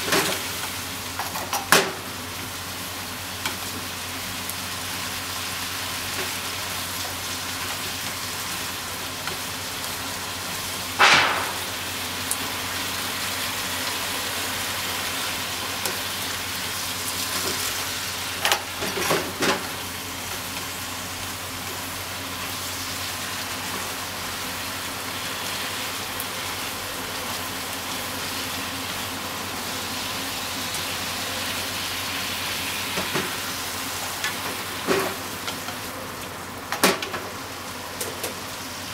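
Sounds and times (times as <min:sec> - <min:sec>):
food sizzling in a frying pan: 0:00.0 - 0:38.9.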